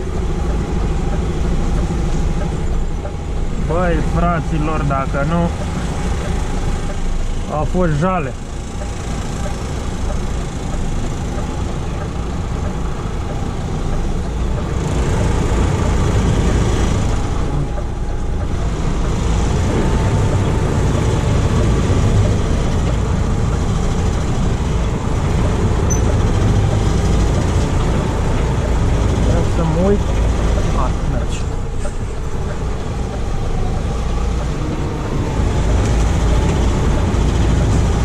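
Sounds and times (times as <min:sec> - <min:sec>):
truck engine rumbling: 0:00.0 - 0:38.0.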